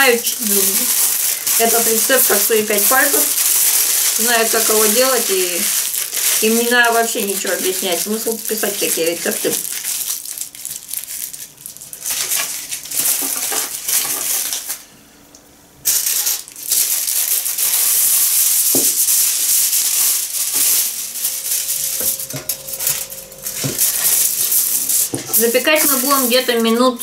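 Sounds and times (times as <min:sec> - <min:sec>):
aluminium foil crinkling: 0:00.0 - 0:14.9, 0:15.8 - 0:27.0.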